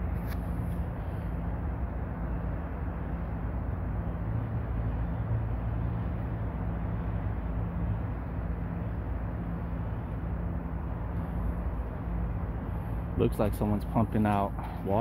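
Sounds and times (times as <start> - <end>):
engine-driven pump droning: 0.0 - 15.0.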